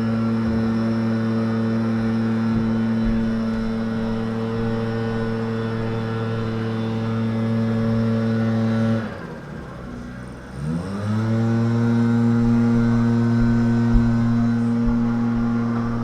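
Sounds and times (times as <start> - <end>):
lawnmower engine running: 0.0 - 16.0.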